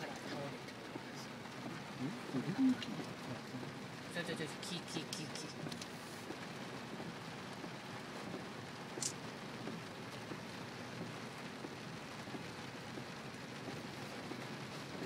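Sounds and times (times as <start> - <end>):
rain pattering on a car: 0.0 - 15.0.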